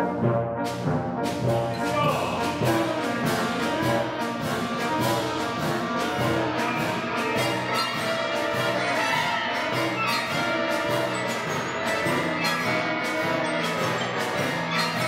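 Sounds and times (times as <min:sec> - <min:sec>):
wind orchestra playing: 0:00.0 - 0:15.0.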